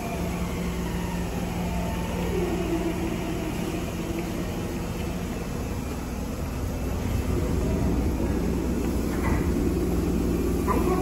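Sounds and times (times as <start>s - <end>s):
electric train motor whine: 0.0s - 11.0s
steady hum: 0.0s - 11.0s.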